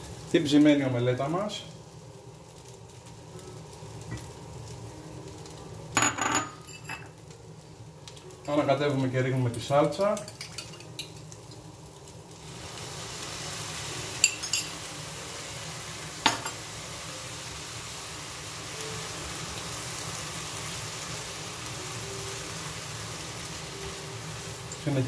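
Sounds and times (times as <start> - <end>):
rice frying in a pan: 0.0 - 25.0.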